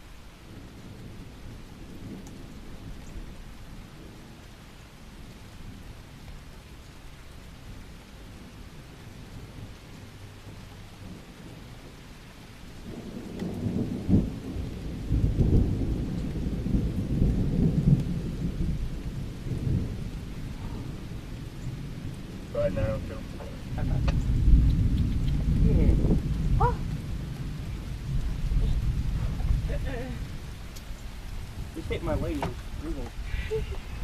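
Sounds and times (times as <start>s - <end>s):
thunder cracking and rumbling: 0.0s - 6.3s, 7.6s - 34.0s
steady rain: 0.0s - 34.0s.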